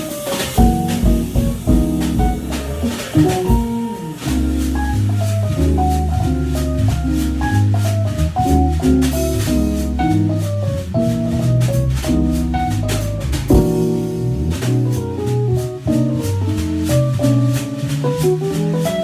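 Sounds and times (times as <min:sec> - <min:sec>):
drums on cymbals: 0:00.0 - 0:19.0
keyboard chords: 0:00.0 - 0:19.0
walking bass line: 0:00.0 - 0:19.0.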